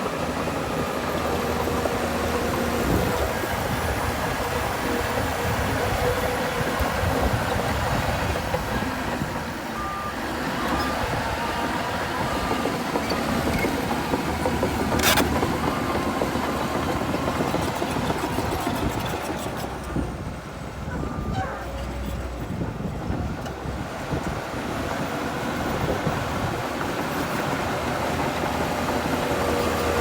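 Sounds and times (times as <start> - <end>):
heavy machinery diesel engines: 0.0 - 30.0.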